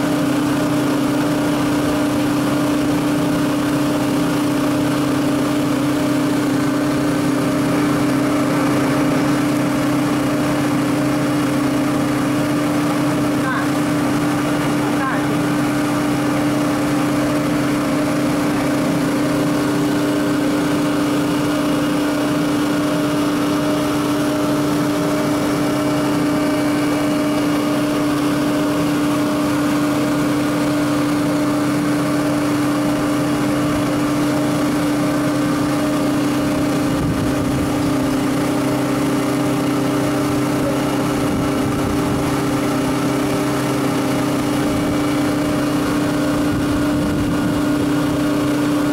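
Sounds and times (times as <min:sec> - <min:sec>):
industrial machinery humming: 0:00.0 - 0:48.9.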